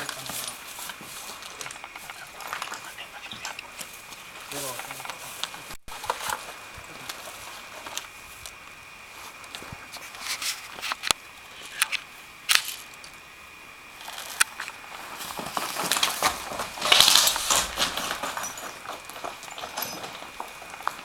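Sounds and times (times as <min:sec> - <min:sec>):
footsteps crunching over dry leaves: 0:00.0 - 0:11.8, 0:14.0 - 0:21.0.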